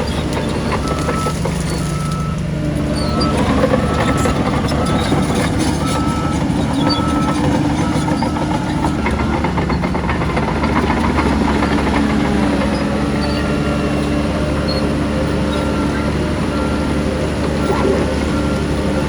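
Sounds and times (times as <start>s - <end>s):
heavy machinery diesel engine running: 0.0s - 19.0s.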